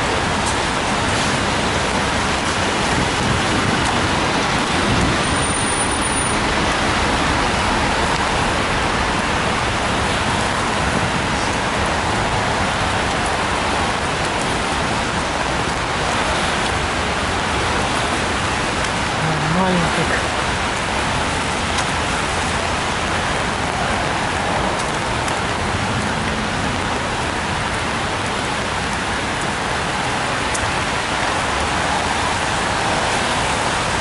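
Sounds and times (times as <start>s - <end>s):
rain on umbrella: 0.0s - 34.0s
traffic on wet road: 0.0s - 34.0s.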